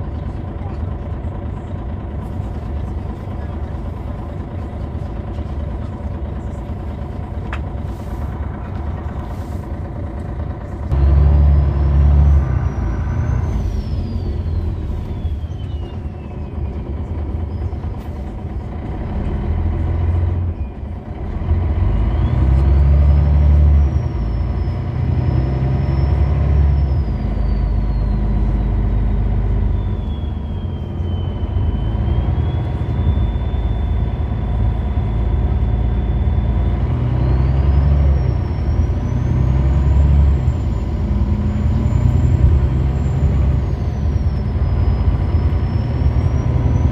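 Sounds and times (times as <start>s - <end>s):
bus diesel engine under load: 0.0s - 46.9s.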